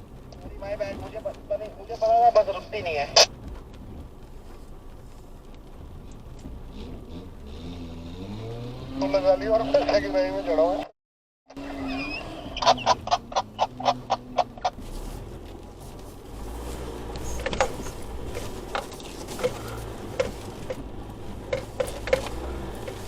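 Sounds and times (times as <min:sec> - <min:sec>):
diesel engine drone: 0:00.0 - 0:10.9, 0:11.5 - 0:23.0.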